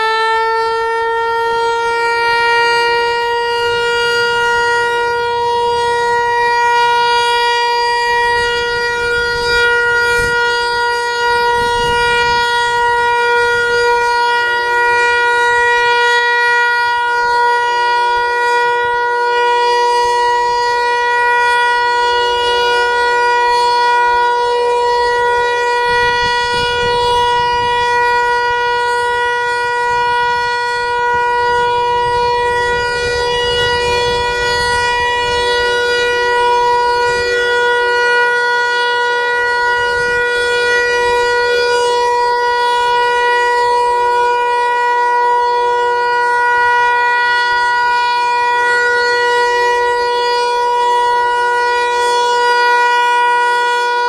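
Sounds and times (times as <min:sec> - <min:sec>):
tornado siren steady tone: 0:00.0 - 0:54.0.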